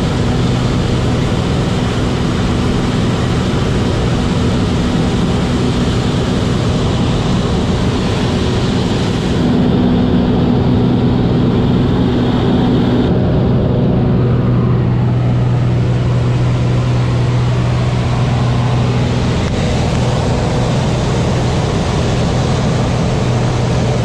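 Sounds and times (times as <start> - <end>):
light aircraft engine droning: 0.0 - 24.0.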